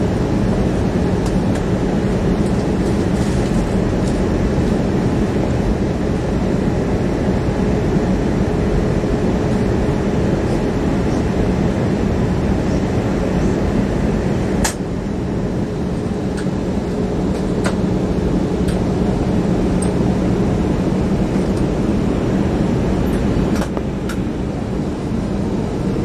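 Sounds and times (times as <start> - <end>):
airliner cabin engine noise: 0.0 - 26.0
constant low hum: 0.0 - 26.0.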